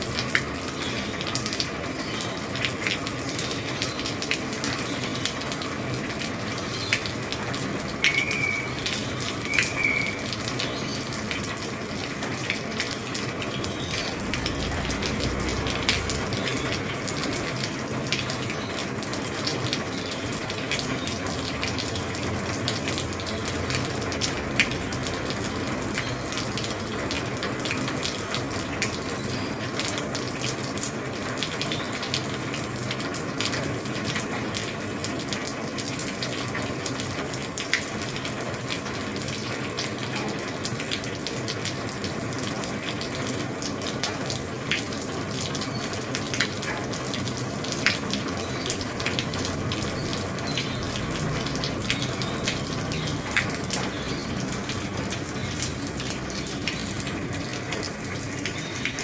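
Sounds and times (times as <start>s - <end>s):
heavy rain on a roof: 0.0s - 59.0s
sharp raindrop taps: 0.0s - 59.0s.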